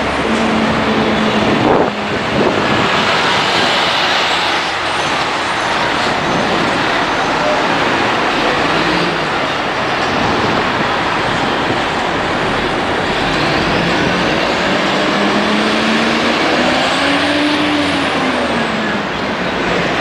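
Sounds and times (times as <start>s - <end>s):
bus engine: 0.0s - 20.0s
city traffic noise: 0.0s - 20.0s.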